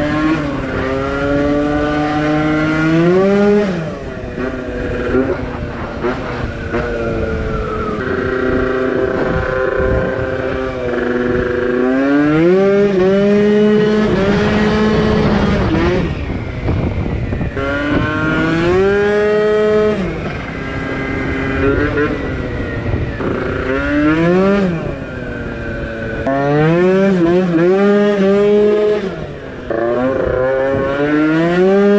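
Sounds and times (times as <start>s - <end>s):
scooter engine revving: 0.0s - 31.9s.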